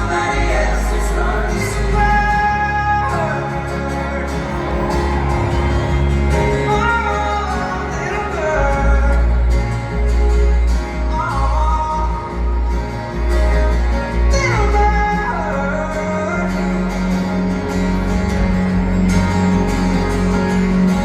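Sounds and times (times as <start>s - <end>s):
guitar accompaniment: 0.0s - 21.0s
low bass note: 0.0s - 21.0s
person singing: 0.0s - 21.0s.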